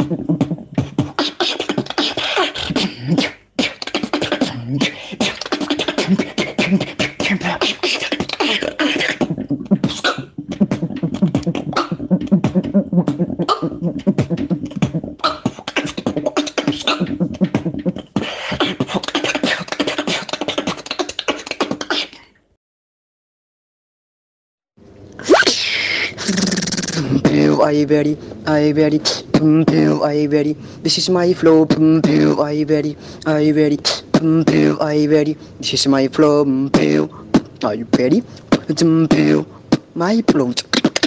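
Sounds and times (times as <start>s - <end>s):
person beatboxing: 0.0s - 22.3s, 25.2s - 41.0s.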